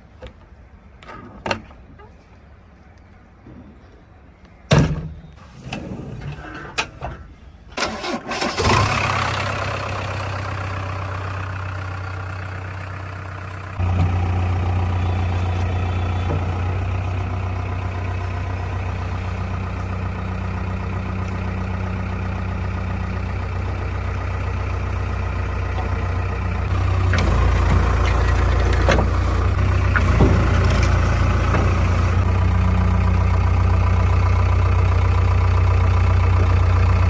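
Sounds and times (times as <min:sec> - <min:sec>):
diesel engine starting and running: 0:05.5 - 0:37.0.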